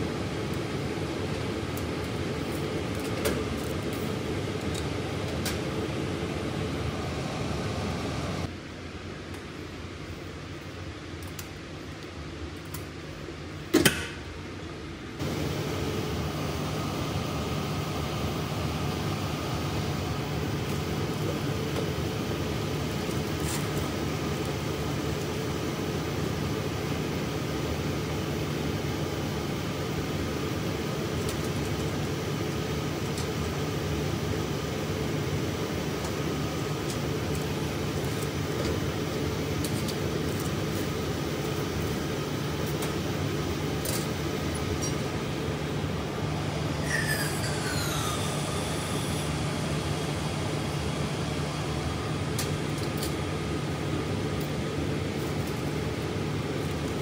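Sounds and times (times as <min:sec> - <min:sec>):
blower fan hum: 0:00.0 - 0:57.0
quiet room hum: 0:00.0 - 0:57.0.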